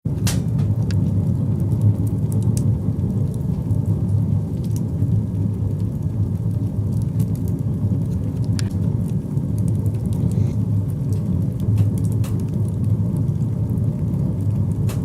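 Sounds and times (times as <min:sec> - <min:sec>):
fire rumbling in a stove: 0:00.0 - 0:15.0
firewood crackling: 0:00.1 - 0:15.0.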